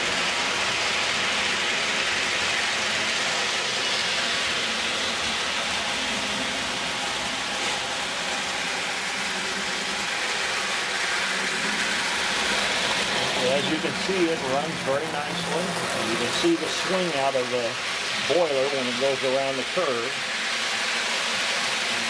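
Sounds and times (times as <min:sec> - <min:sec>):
toy train motor whir: 0:00.0 - 0:22.0
metal wheels on rails: 0:01.2 - 0:22.0.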